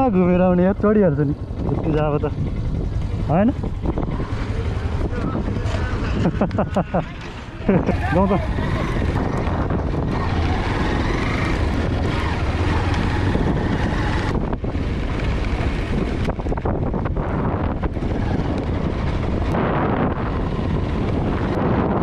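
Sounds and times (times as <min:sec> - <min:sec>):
steady low rumble: 0:00.0 - 0:22.0
wind buffeting microphone: 0:00.0 - 0:22.0.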